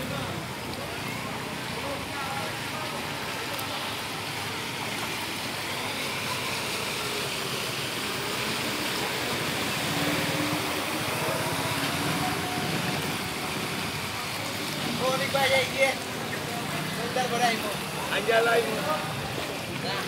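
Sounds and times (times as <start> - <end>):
floodwater washing: 0.0 - 20.0.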